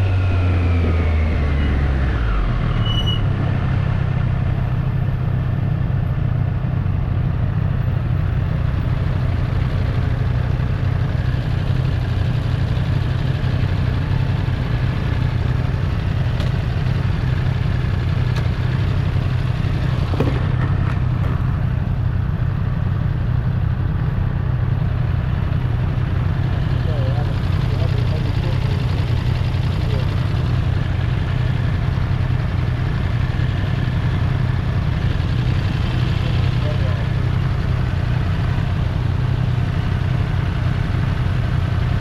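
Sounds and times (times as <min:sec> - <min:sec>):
motorcycle engine running low: 0:00.0 - 0:42.0.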